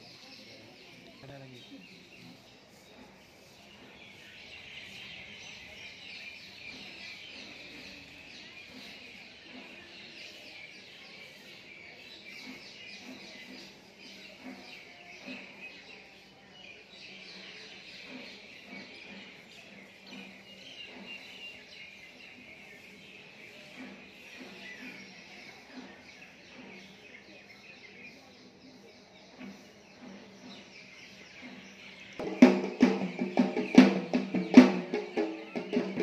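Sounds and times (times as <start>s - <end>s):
many birds chirping: 0.0s - 36.0s.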